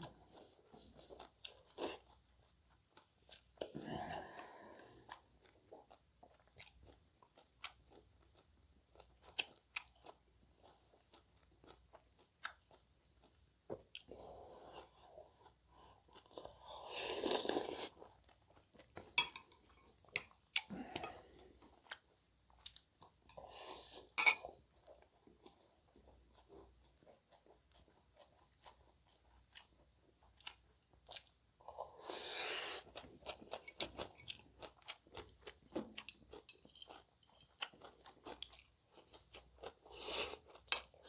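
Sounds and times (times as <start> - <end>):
person chewing and crunching food: 0.0 - 41.0.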